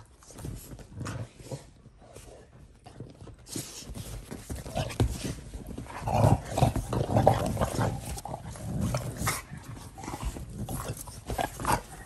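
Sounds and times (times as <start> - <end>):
dogs scuffling: 0.0 - 12.0.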